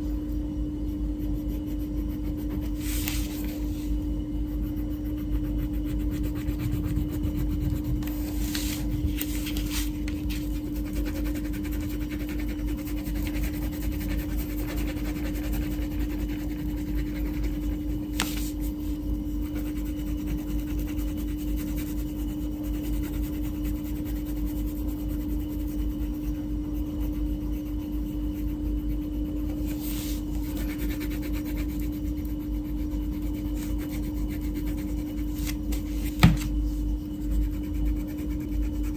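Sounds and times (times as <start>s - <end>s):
steady low hum: 0.0s - 38.9s
crayon scratching on paper: 1.0s - 36.5s, 37.1s - 38.9s.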